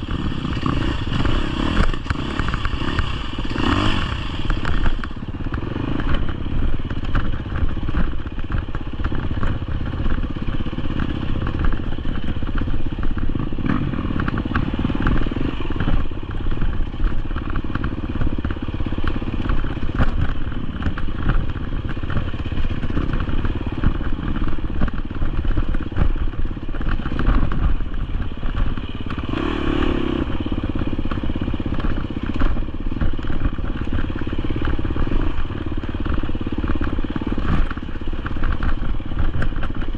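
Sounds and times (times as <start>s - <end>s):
dirt bike engine running: 0.0s - 39.9s
rattling and clatter: 0.0s - 39.9s.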